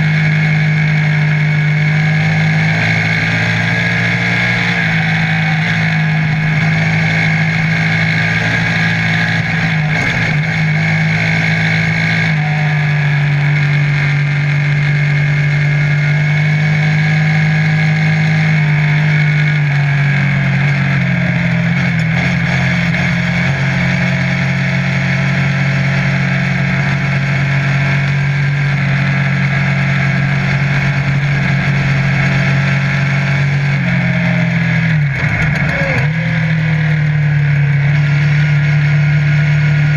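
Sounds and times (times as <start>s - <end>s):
buggy engine running: 0.0s - 39.9s.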